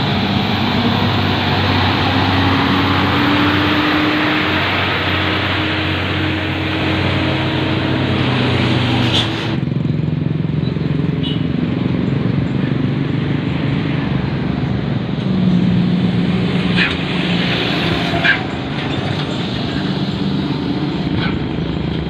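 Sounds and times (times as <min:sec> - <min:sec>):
truck diesel engine running hard: 0:00.0 - 0:22.0.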